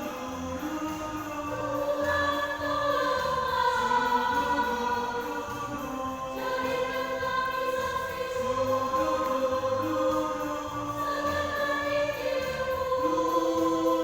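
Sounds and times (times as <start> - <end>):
choir singing held chords: 0.0 - 14.0
low bass line: 0.0 - 14.0.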